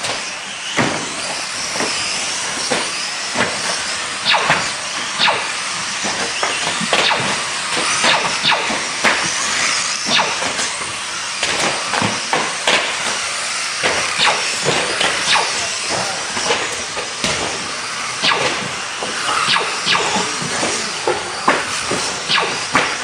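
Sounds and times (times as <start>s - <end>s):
rc car motors whining: 0.0s - 23.0s.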